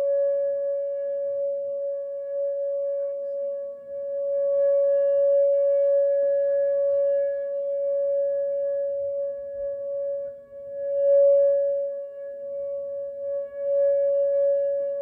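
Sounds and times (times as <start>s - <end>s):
warning siren steady tone: 0.0s - 15.0s.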